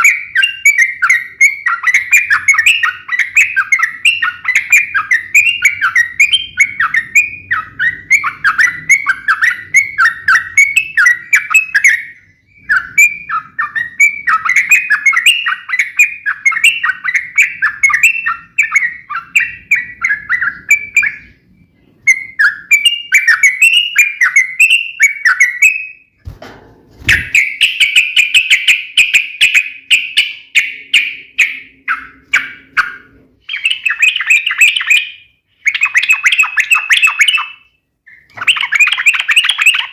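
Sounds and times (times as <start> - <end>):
bird singing rapid chirping song: 0.0 - 26.2, 27.0 - 39.9.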